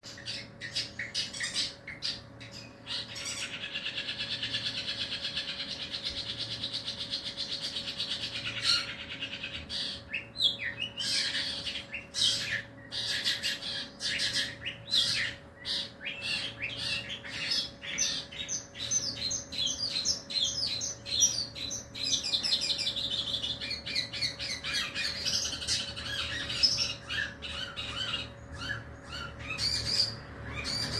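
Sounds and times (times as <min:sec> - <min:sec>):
bird trilling and chattering: 0:00.0 - 0:30.9.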